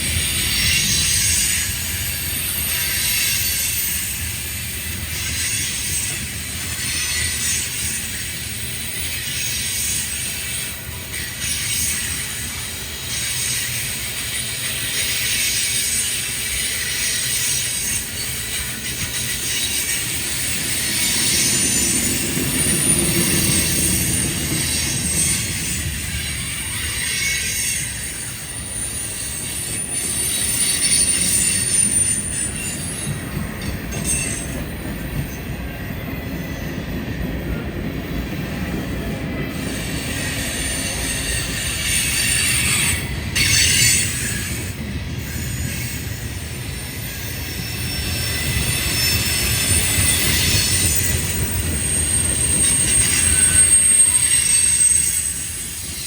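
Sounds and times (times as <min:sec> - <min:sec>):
wheel squeal: 0:00.0 - 0:36.9, 0:39.4 - 0:56.0
train cars rumbling on rails: 0:00.0 - 0:56.0.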